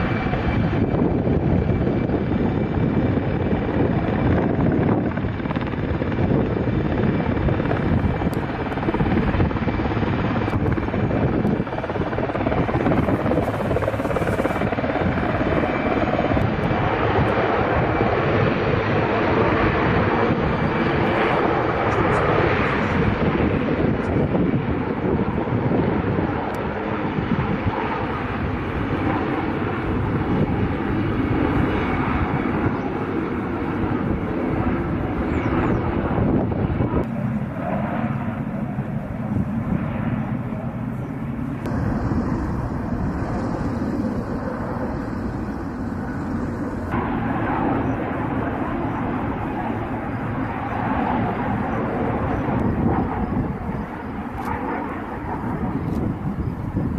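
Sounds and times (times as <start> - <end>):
helicopter flying low: 0.0 - 56.9
wind buffeting microphone: 0.0 - 56.9.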